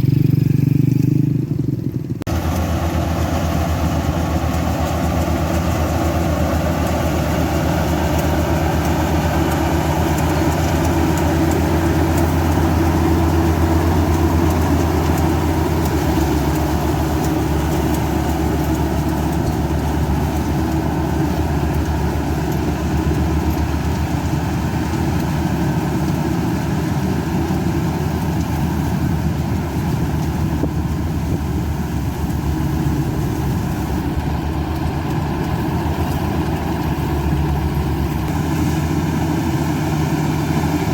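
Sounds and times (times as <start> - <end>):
harvester engine droning: 0.0 - 40.9.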